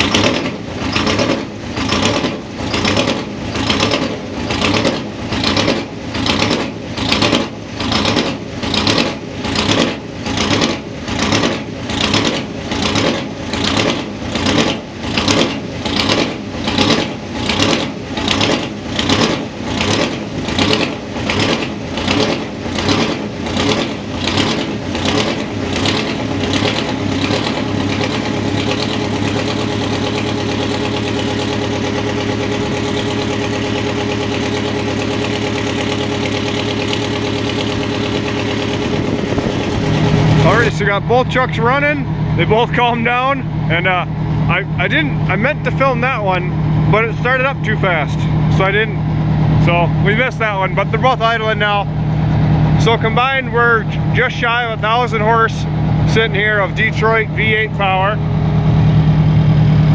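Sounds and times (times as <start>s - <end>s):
diesel engine surging and idling: 0.0s - 59.9s.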